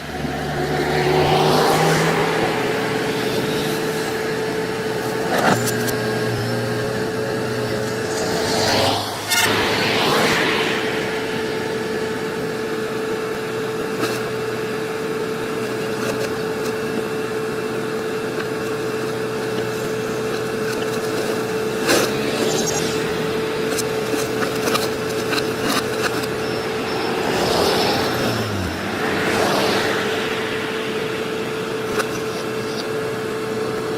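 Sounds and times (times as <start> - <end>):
diesel engine running with whine: 0.0 - 33.9.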